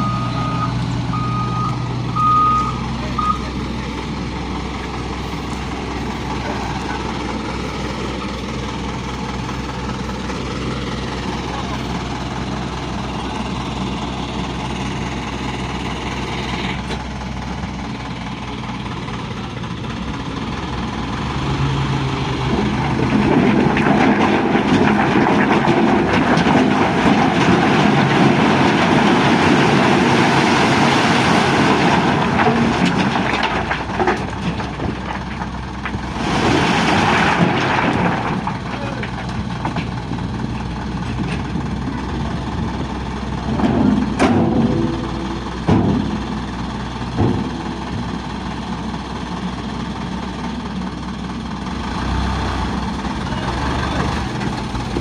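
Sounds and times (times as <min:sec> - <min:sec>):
diesel truck engine revving: 0:00.0 - 0:39.1, 0:44.8 - 0:55.0.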